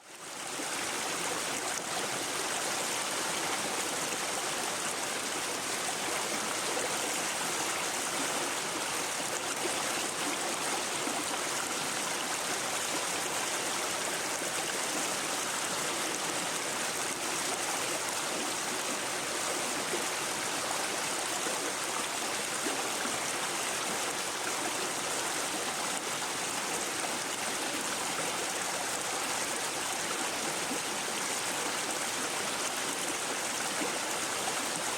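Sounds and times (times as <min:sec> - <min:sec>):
brook babbling over stones: 0:00.0 - 0:34.9.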